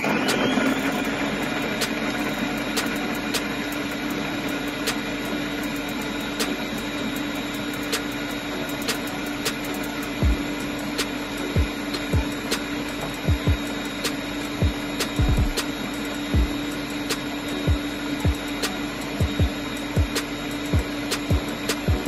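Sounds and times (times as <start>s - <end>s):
blender blade humming: 0.0s - 22.0s.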